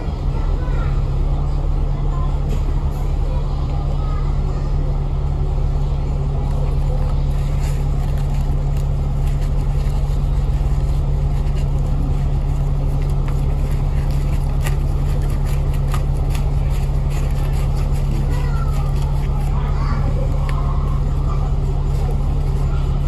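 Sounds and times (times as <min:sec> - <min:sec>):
bus body rattling: 0:00.0 - 0:23.0
bus engine and road rumble: 0:00.0 - 0:23.0.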